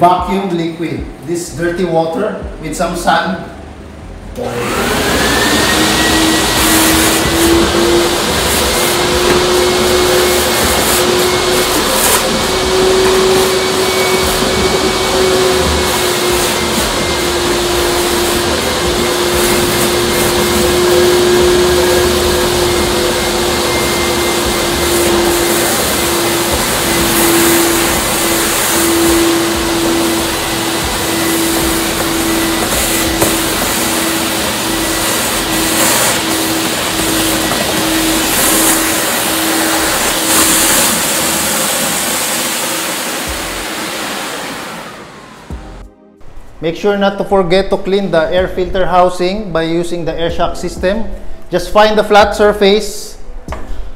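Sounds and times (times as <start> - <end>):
industrial vacuum whining: 0.0 - 53.9.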